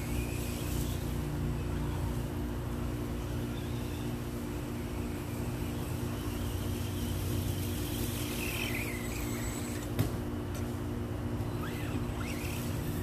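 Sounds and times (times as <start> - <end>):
insects buzzing: 0.0 - 13.0
low constant hum: 0.0 - 13.0.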